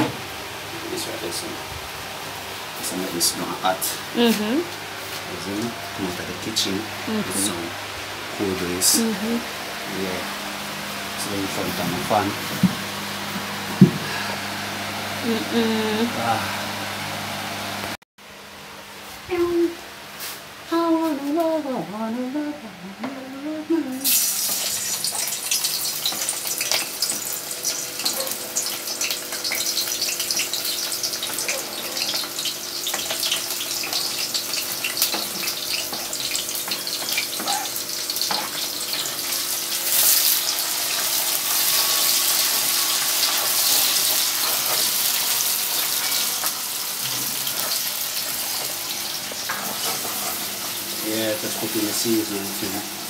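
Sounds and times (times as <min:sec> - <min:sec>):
vegetables sizzling in oil: 0:00.0 - 0:17.9, 0:24.0 - 0:53.0.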